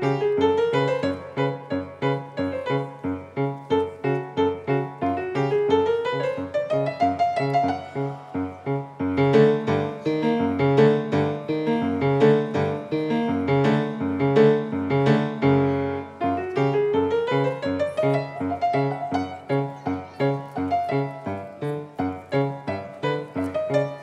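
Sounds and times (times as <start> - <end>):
grand piano playing: 0.0 - 24.0.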